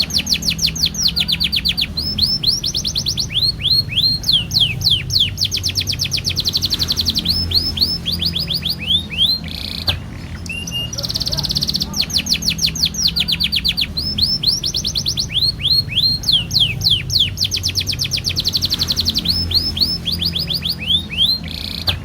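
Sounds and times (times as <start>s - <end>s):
canary singing trills: 0.0s - 22.0s
low steady hum: 0.0s - 22.0s.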